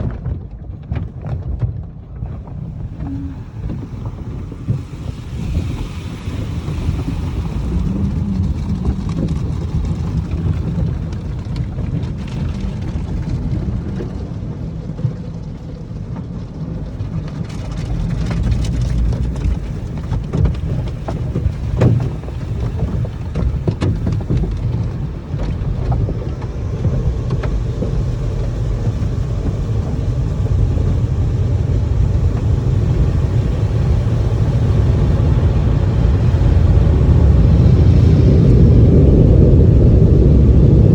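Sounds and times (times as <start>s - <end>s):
car wash machinery rumble: 0.0s - 40.9s.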